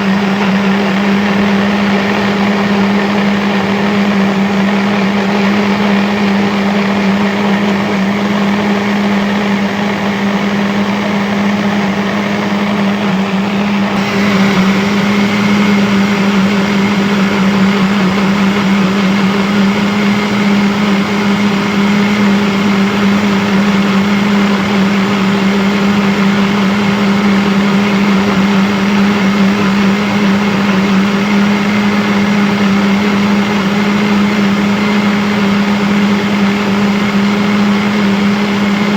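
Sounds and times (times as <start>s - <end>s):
blender motor running: 0.0s - 38.9s.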